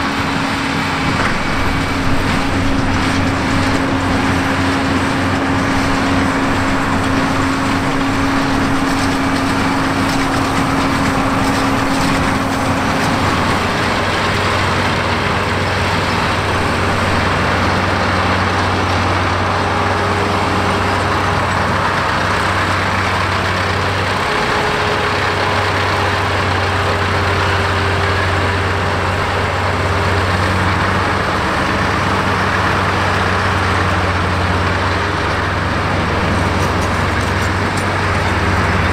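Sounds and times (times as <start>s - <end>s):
tractor engines working: 0.0s - 38.9s.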